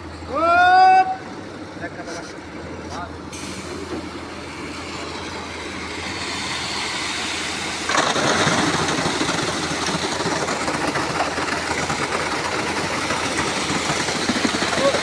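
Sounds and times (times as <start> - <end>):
construction machinery engine running: 0.0 - 15.0.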